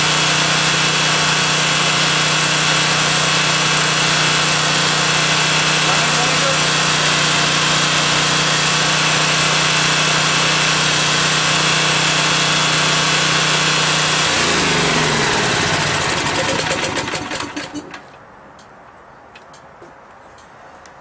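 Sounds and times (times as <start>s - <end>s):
generator engine running: 0.0s - 18.1s.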